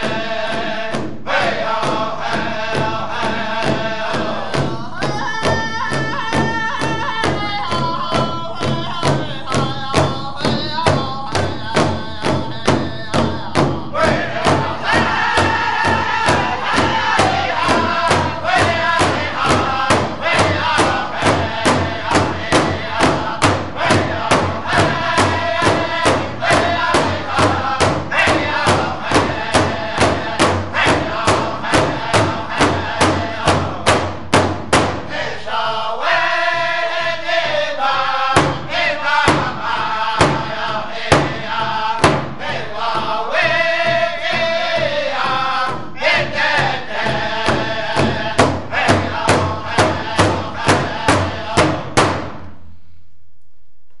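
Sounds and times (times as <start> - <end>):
large drum beating: 0.0 - 35.3, 38.3 - 52.5
people singing in unison: 0.0 - 52.4.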